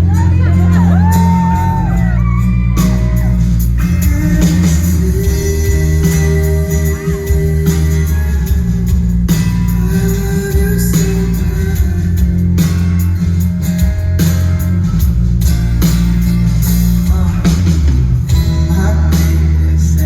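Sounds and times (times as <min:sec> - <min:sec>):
drums: 0:00.0 - 0:20.0
electric guitar: 0:00.0 - 0:20.0
heavy bass: 0:00.0 - 0:20.0.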